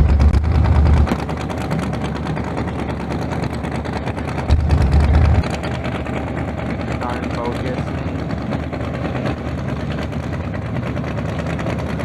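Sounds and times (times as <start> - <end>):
deep low rumble: 0.0 - 11.0
drag race car engine idling: 0.0 - 12.0.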